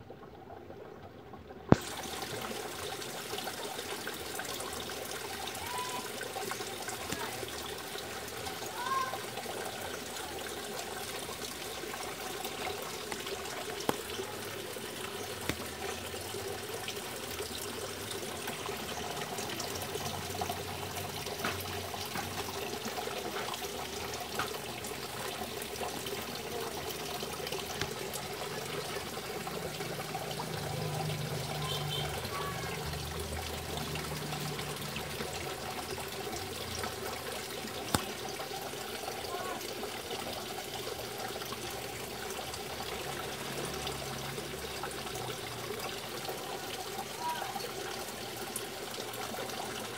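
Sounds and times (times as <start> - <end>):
water trickling and splashing: 0.0 - 49.9.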